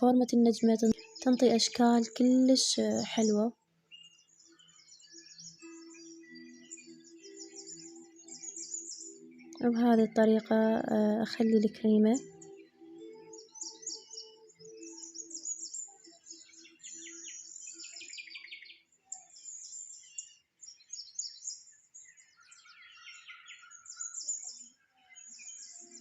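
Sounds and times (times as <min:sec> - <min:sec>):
small birds chirping and trilling: 0:00.0 - 0:26.0.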